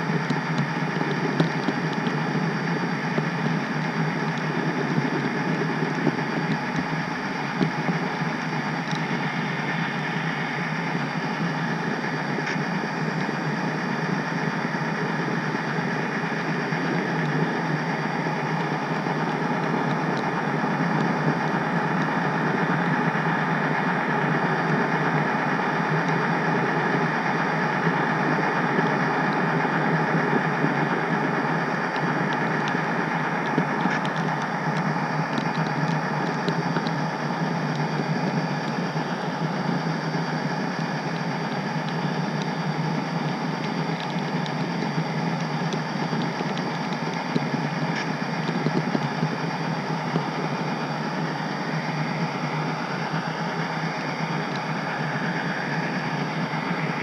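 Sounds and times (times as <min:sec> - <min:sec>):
model train running: 0:00.0 - 0:57.0.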